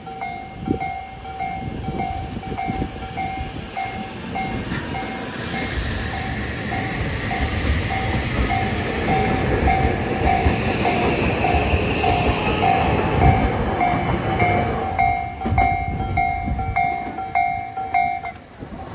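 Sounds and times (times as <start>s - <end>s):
level crossing warning bell: 0.0s - 18.6s
electric train rumbling: 0.0s - 18.9s
rail-joint clicks: 0.0s - 18.9s.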